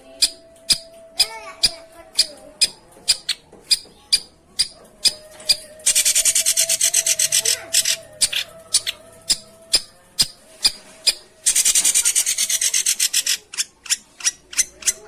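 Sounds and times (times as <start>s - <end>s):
bird rasping chatter: 0.1s - 15.0s
bird sharp ticking calls: 0.1s - 15.0s.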